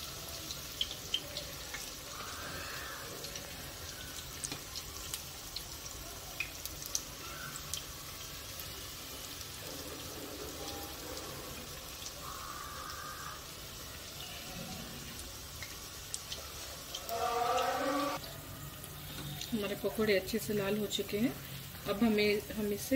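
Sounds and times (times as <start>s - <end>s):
food sizzling in hot oil: 0.0s - 22.9s
oil popping and crackling: 0.0s - 22.9s.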